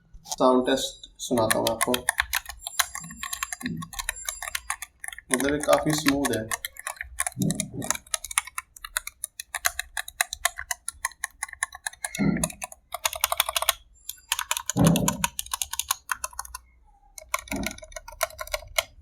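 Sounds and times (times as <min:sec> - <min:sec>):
mechanical keyboard key clacks: 0:01.3 - 0:16.6, 0:17.2 - 0:19.0.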